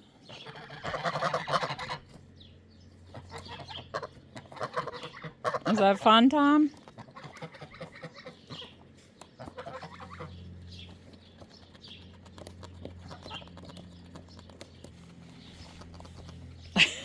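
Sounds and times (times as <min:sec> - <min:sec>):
chickens clucking: 0:00.1 - 0:14.8.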